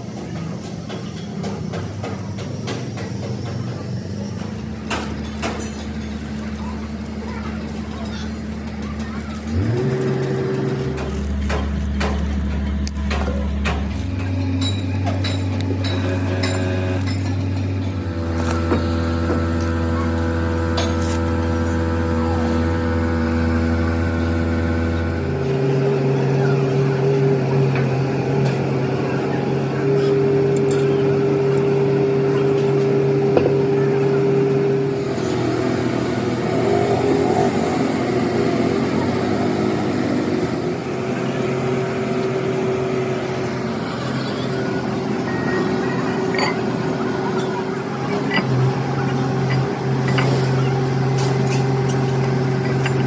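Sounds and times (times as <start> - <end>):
machine humming: 6.2 - 29.0, 29.8 - 53.0.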